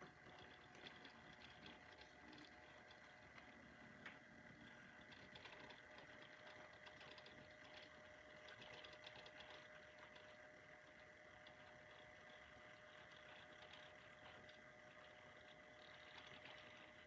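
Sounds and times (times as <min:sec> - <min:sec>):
model train motors whirring: 0:00.0 - 0:17.0.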